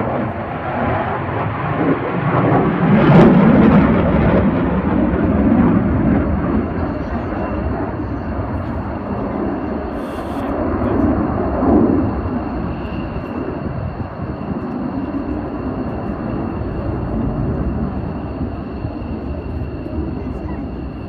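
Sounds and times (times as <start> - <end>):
jet engine rumble: 0.0 - 21.0.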